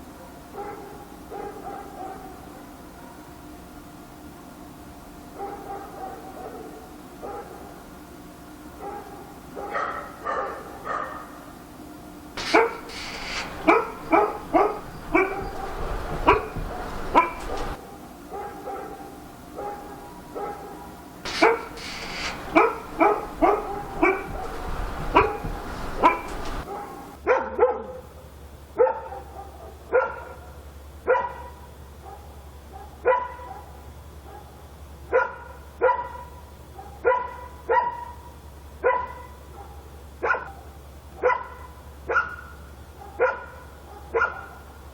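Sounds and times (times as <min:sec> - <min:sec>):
dog barking: 0:00.2 - 0:03.3, 0:05.4 - 0:07.9, 0:08.8 - 0:11.5, 0:12.3 - 0:28.1, 0:28.8 - 0:44.8.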